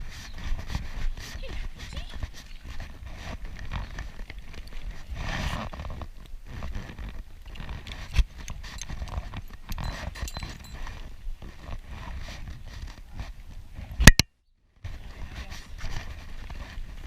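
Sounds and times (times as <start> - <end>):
horse hooves clip-clopping: 0.0 - 14.0, 14.9 - 17.0.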